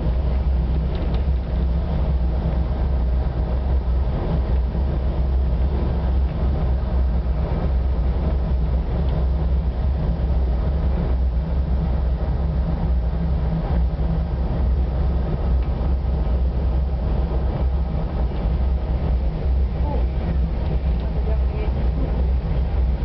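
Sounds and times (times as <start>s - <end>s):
locomotive engine droning: 0.0s - 23.0s
wheels rumbling on track: 0.0s - 23.0s.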